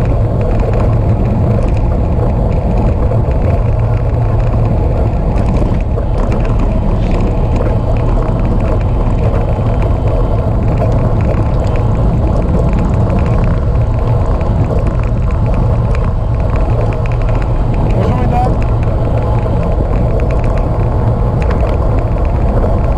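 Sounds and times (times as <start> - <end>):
wind rumble on microphone: 0.0 - 22.9.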